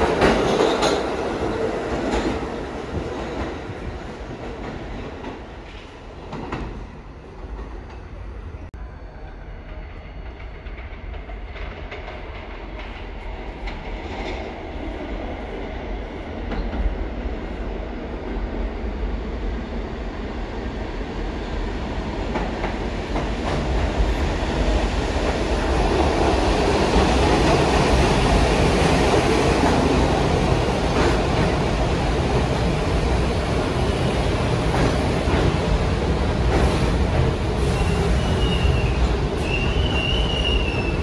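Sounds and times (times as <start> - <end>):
subway train rumble: 0.0 - 41.0.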